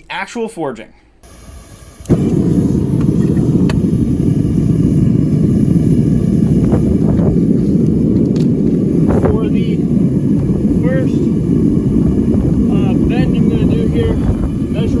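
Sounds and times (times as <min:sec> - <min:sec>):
forge burner rushing: 0:01.2 - 0:15.0.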